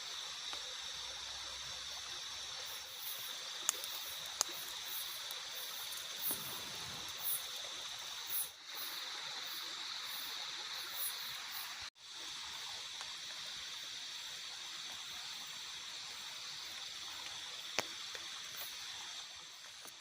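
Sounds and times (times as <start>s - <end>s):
insects chirping: 0.0s - 20.0s
watery hiss: 0.0s - 20.0s.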